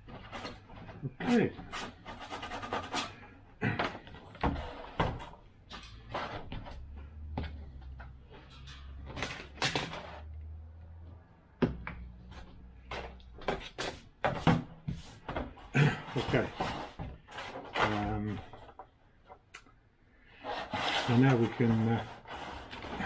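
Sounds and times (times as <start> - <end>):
parts handled on a workbench: 0.0 - 19.6.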